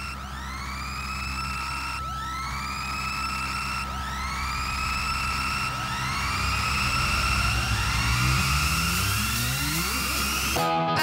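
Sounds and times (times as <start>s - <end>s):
low sustained drone: 0.0s - 11.0s
siren-like electronic tone: 0.0s - 11.0s.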